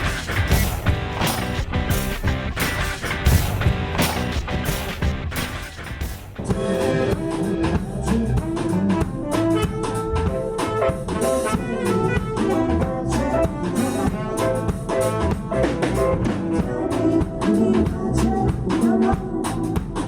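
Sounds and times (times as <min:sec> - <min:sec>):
jazzy music with horns and drums: 0:00.0 - 0:20.0.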